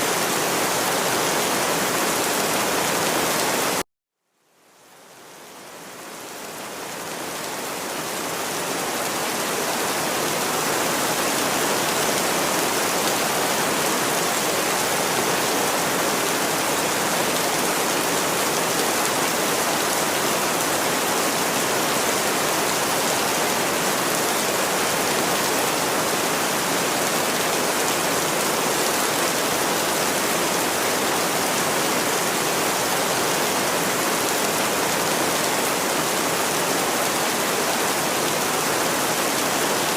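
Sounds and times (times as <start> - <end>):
steady rain: 0.0 - 3.8, 4.4 - 39.9.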